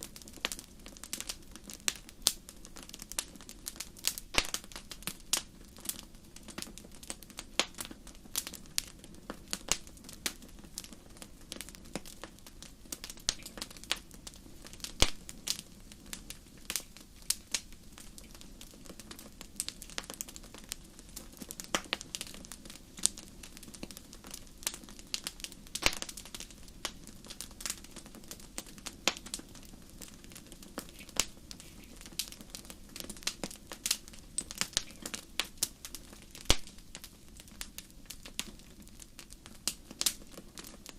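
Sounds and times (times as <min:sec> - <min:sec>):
fire crackling in fireplace: 0:00.0 - 0:40.9.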